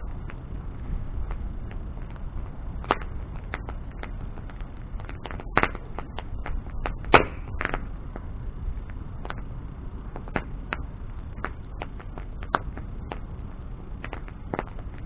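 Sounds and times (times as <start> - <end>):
bonfire crackling and popping: 0.0 - 15.0
low rush of flame: 0.0 - 15.0.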